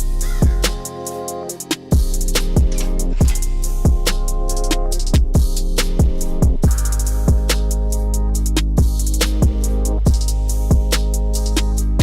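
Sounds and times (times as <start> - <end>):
background music with drums: 0.0 - 12.0.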